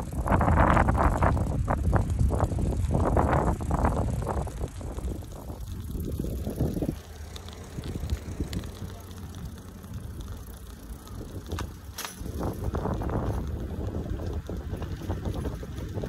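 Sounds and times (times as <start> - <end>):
bike clicks and rattles: 0.0 - 16.0
bike tyres rumbling on pavement: 0.0 - 16.0
wind on microphone: 0.0 - 16.0.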